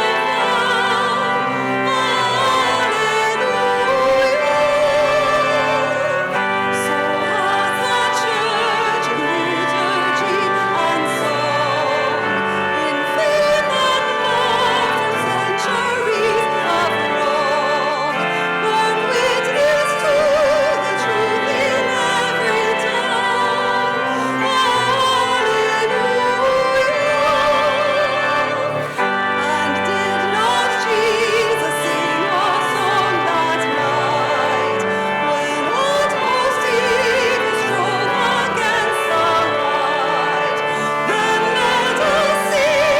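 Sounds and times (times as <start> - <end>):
instrumental accompaniment: 0.0 - 42.9
person singing with vibrato: 0.0 - 42.9.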